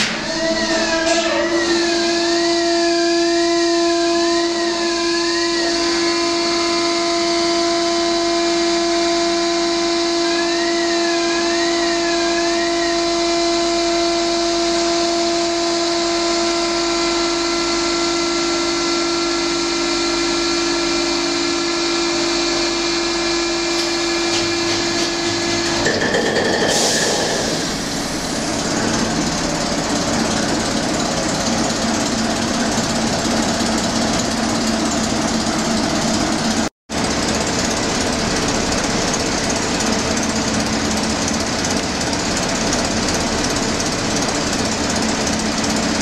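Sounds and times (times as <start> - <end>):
engine room hum and whine: 0.0 - 46.0.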